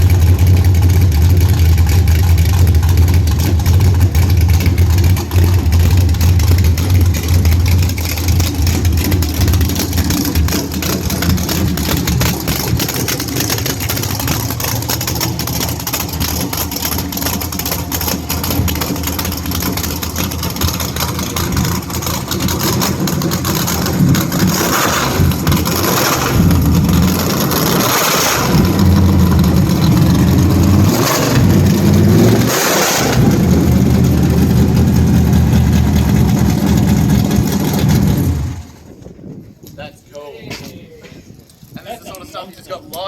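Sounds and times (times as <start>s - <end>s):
drag car engine running: 0.0s - 39.1s.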